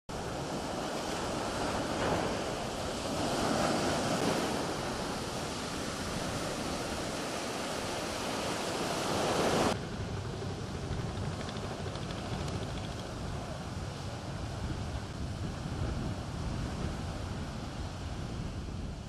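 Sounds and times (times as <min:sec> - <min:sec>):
surf breaking on a beach: 0:00.1 - 0:19.0
wind on the microphone: 0:00.1 - 0:19.0.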